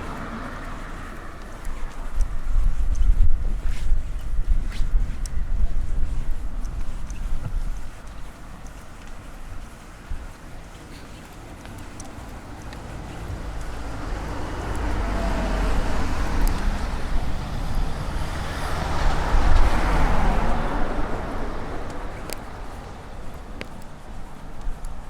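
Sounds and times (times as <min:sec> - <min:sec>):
tyre noise on road: 0:00.0 - 0:25.0
vehicle engine rumble: 0:00.0 - 0:25.0.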